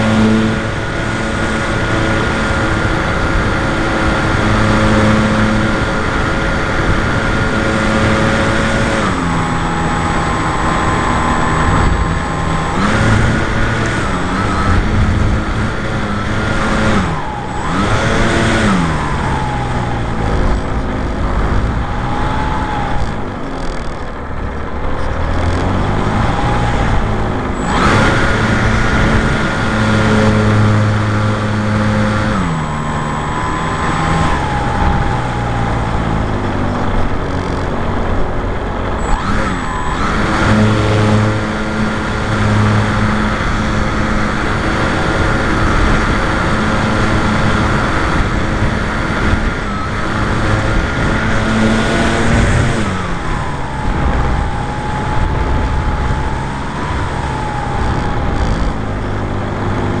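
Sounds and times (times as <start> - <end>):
electric motor and propeller whine: 0.0 - 60.0
wind rushing over microphone: 0.0 - 60.0.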